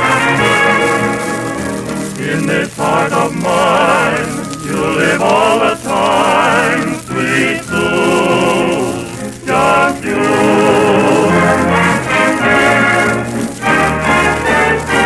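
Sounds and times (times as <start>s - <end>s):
vocal group singing with vibrato: 0.0s - 15.0s.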